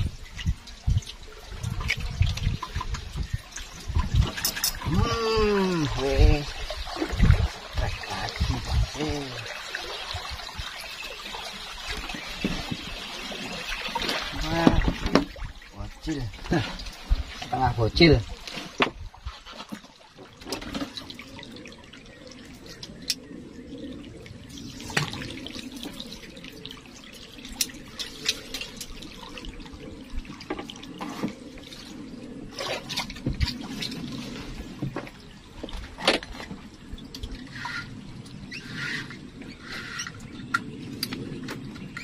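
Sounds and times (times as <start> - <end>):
water sloshing and trickling: 0.0 - 42.0.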